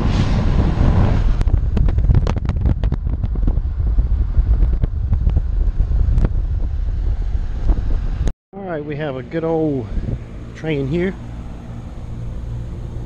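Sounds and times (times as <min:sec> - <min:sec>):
wind buffeting microphone: 0:00.0 - 0:08.3, 0:08.9 - 0:13.0
vehicle road rumble: 0:00.0 - 0:13.0.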